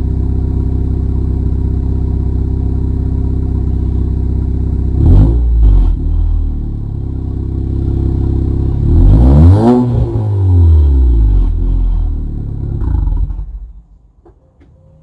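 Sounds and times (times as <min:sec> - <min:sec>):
car engine idling and revving: 0:00.0 - 0:13.8.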